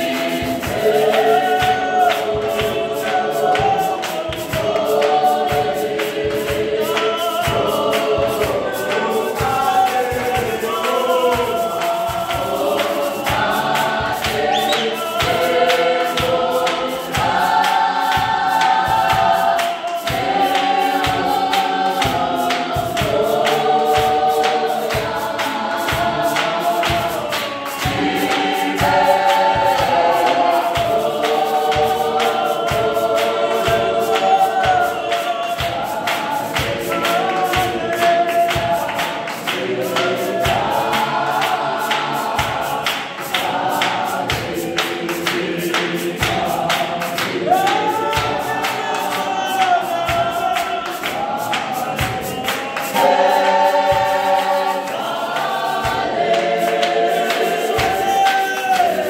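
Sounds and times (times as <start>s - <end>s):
gospel choir singing: 0.0s - 59.0s
hand claps: 0.0s - 59.0s.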